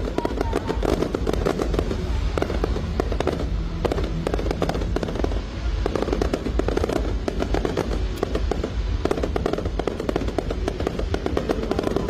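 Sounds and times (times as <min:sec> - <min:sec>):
fireworks crackling and banging: 0:00.0 - 0:12.0
music playing: 0:00.0 - 0:12.0.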